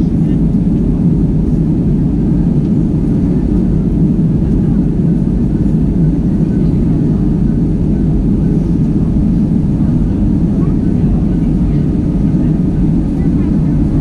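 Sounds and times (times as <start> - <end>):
airliner cabin engine noise: 0.0 - 14.0.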